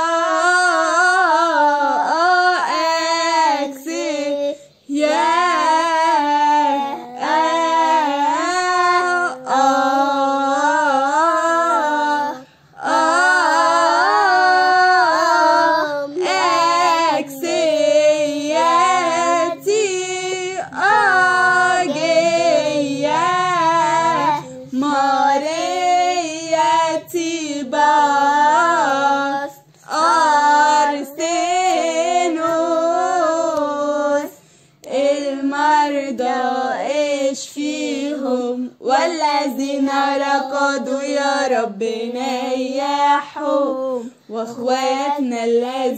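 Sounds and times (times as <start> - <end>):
young female voices singing hymn: 0.0 - 45.9.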